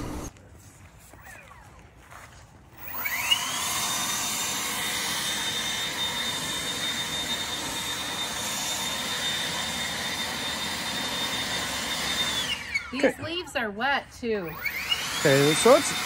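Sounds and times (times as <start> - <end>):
leaf blower motor whine: 0.0 - 0.3, 1.1 - 13.6, 14.4 - 16.0.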